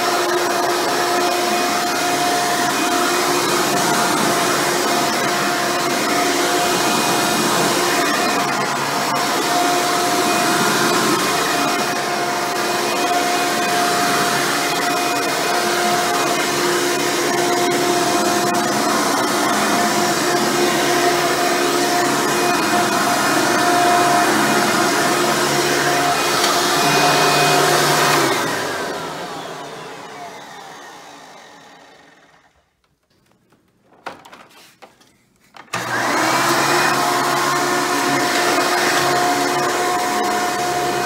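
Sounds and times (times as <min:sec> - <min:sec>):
vacuum cleaner running on carpet: 0:00.0 - 0:32.6, 0:35.7 - 0:41.0.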